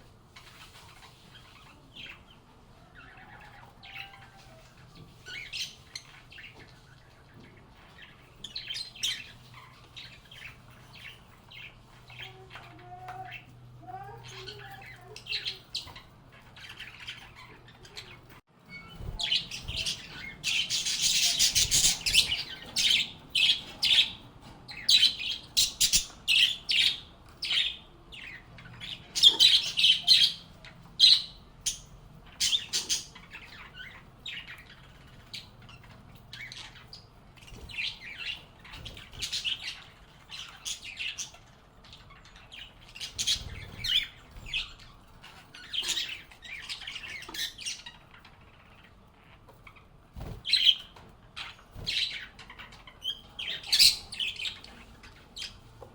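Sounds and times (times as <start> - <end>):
lovebirds chirping and squawking: 0.0 - 55.9.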